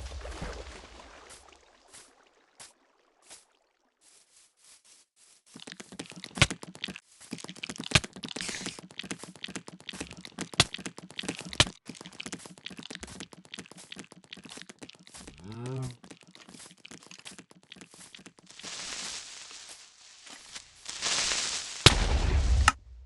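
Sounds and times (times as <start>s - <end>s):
dense crackling and crinkling: 3.5s - 23.0s.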